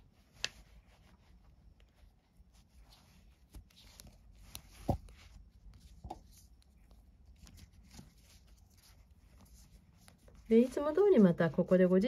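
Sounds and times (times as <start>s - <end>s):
cord rustling: 0.0s - 12.0s.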